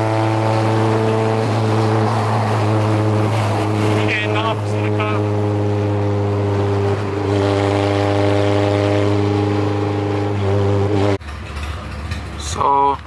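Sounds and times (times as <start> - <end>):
car engine droning at cruise: 0.0 - 12.8.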